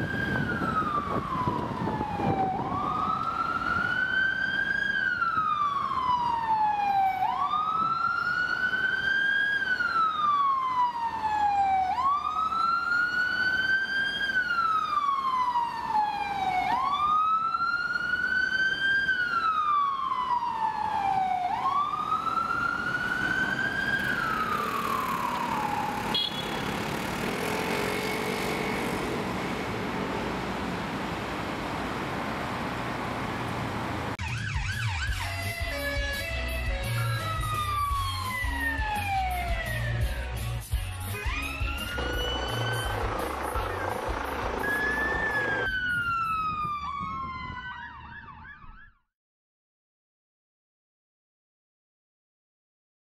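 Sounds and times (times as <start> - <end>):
siren wailing: 0.0 - 30.3, 34.2 - 40.2, 41.1 - 49.1
city traffic: 0.0 - 48.2.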